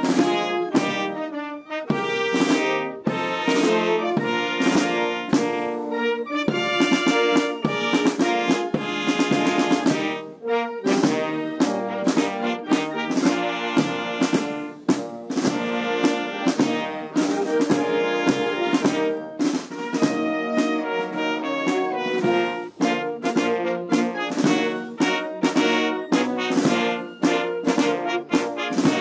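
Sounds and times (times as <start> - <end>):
brass band playing anthem: 0.0 - 29.0.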